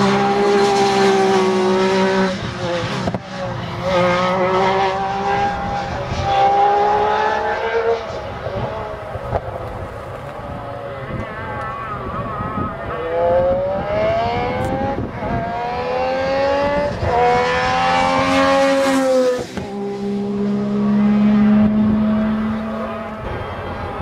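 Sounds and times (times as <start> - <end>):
rally car accelerating: 0.0 - 24.0.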